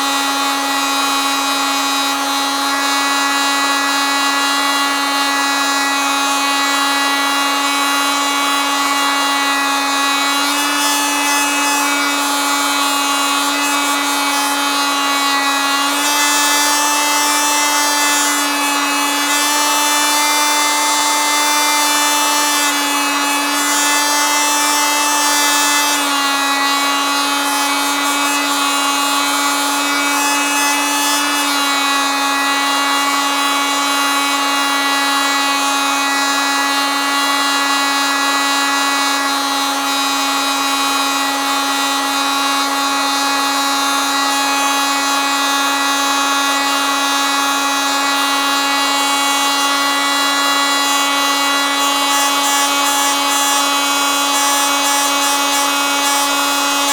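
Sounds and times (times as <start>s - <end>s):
oscillating multitool buzzing: 0.0s - 56.9s.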